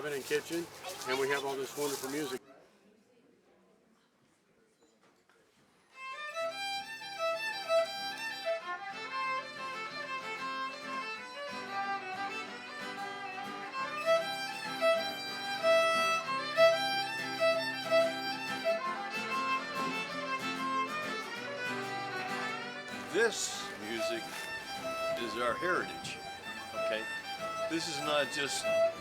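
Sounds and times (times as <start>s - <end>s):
fiddle music: 0.0s - 2.4s, 6.0s - 29.0s.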